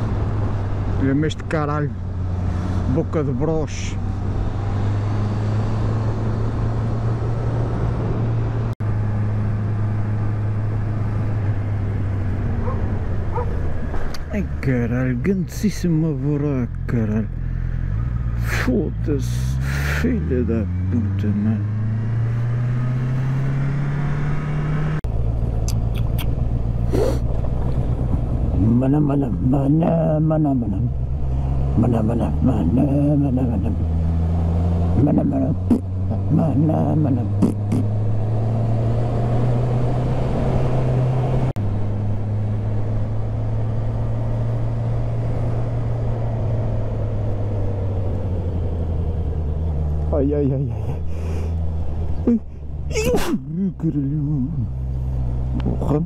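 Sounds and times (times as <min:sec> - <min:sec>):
road noise inside car: 0:00.0 - 0:15.2, 0:21.6 - 0:56.0
car engine accelerating: 0:00.0 - 0:56.0.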